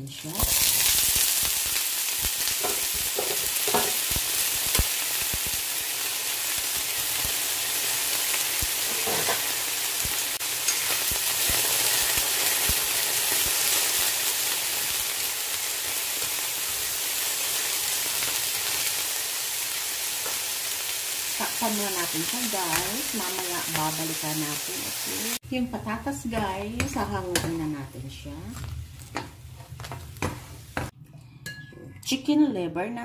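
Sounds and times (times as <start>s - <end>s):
potatoes sizzling in oil: 0.0s - 30.9s.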